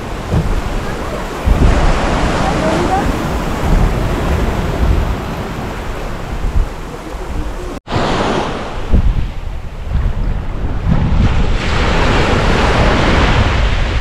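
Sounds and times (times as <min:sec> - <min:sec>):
ocean surf washing onto beach: 0:00.0 - 0:14.0
wind buffeting microphone: 0:00.0 - 0:14.0.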